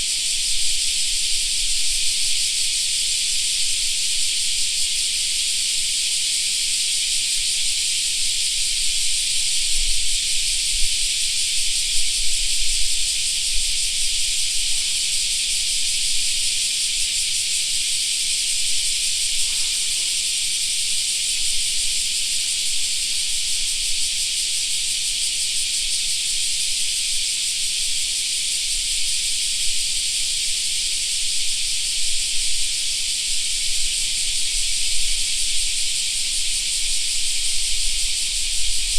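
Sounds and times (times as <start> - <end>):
cicadas droning: 0.0 - 38.9.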